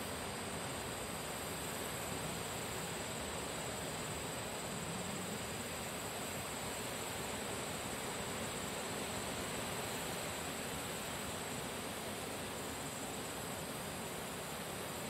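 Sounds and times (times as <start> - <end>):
steady ambient hiss: 0.0 - 15.0.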